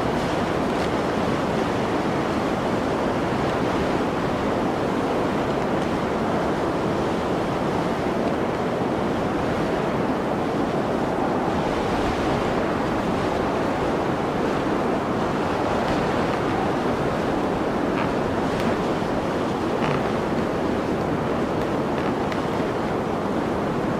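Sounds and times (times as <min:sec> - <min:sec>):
blizzard wind rushing: 0:00.0 - 0:23.9.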